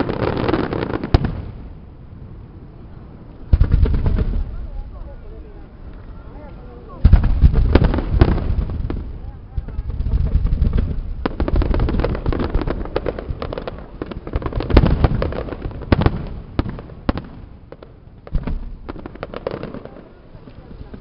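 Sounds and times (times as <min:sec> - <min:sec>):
fireworks popping and banging: 0:00.0 - 0:01.8, 0:03.4 - 0:21.0.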